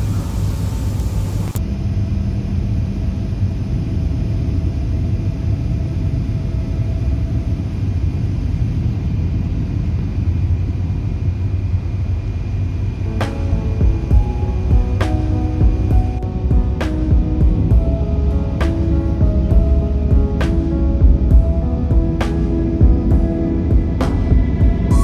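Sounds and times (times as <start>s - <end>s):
faint whine: 0.0s - 25.0s
train rumble inside carriage: 0.0s - 25.0s.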